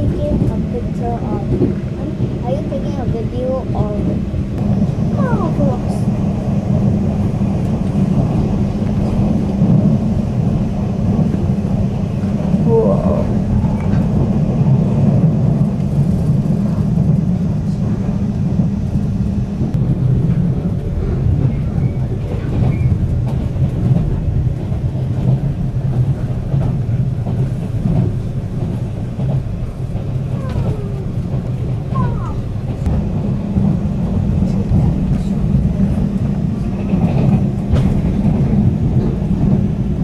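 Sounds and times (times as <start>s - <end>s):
train running low rumble: 0.0s - 40.0s.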